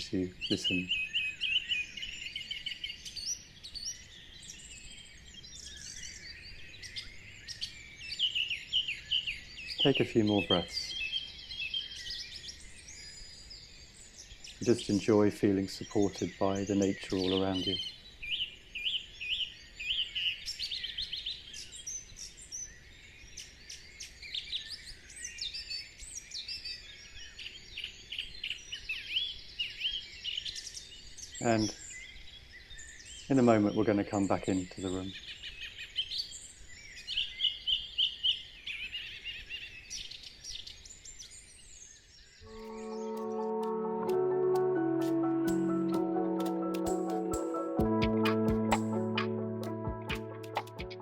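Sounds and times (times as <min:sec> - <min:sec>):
small birds chirping and trilling: 0:00.0 - 0:43.2.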